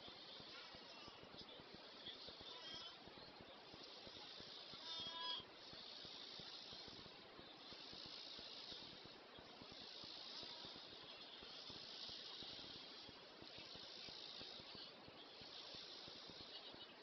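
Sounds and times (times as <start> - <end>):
recording hiss: 0.0 - 17.0.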